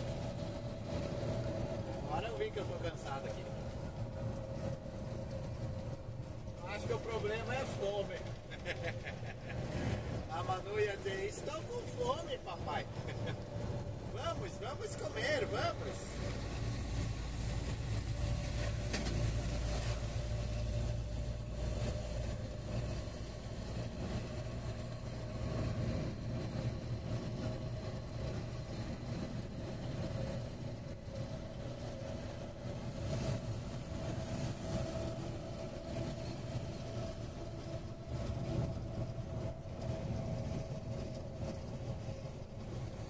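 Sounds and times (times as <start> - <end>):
vehicle engine and road noise: 0.0 - 43.0.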